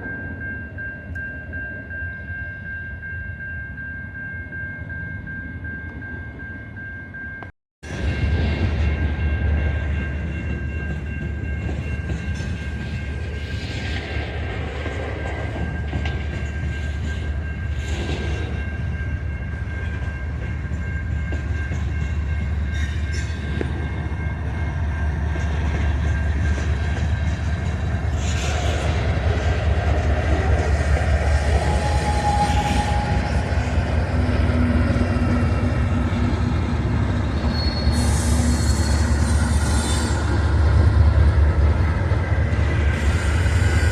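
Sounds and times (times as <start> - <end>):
train rumbling past: 7.8 - 43.9.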